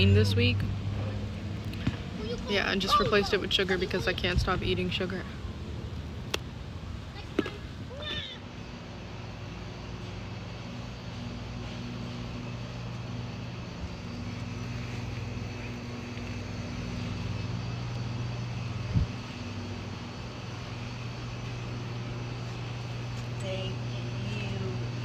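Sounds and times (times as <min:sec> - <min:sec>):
vehicle engine drone: 0:00.0 - 0:25.0.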